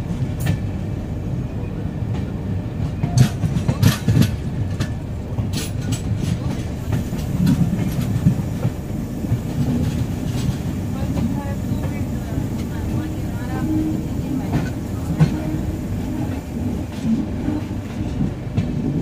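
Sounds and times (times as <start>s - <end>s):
train rumbling on rails: 0.0s - 19.0s
wheels clacking over rail joints: 2.1s - 19.0s.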